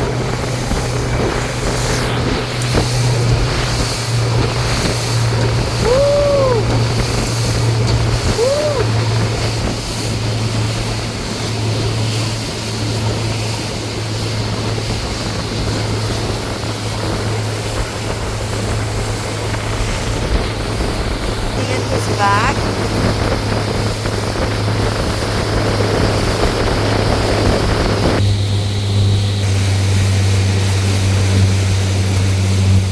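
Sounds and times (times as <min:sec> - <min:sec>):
motorboat engine hum: 0:00.0 - 0:32.9
water rushing against hull: 0:00.0 - 0:32.9.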